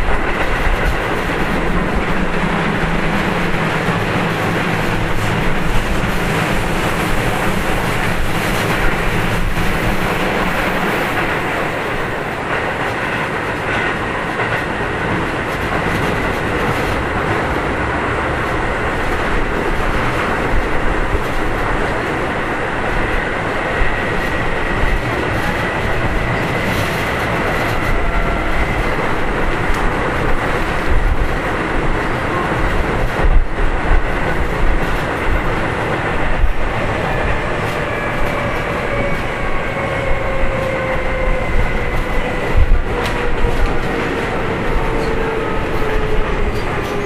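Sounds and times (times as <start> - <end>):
rail-joint clicks: 0.0 - 47.0
train wheels rumbling on rails: 0.0 - 47.0.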